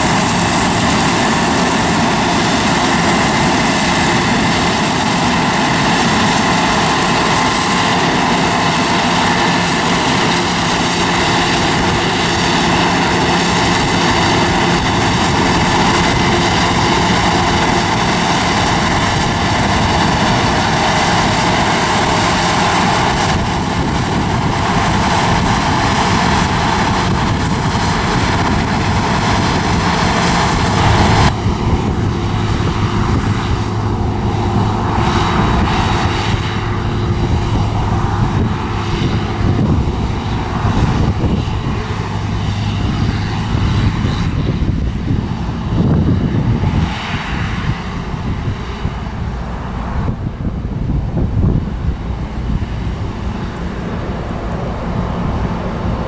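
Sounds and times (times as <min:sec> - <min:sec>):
combine harvester machinery drone: 0:00.0 - 0:56.0
low hum: 0:00.0 - 0:56.0.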